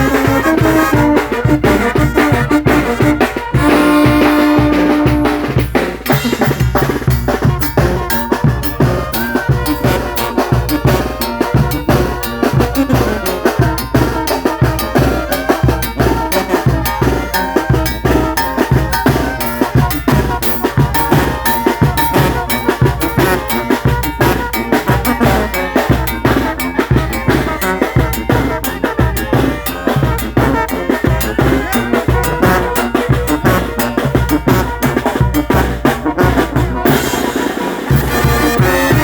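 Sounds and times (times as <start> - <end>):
brass band horns: 0.0 - 39.0
drums and percussion beat: 0.0 - 39.0.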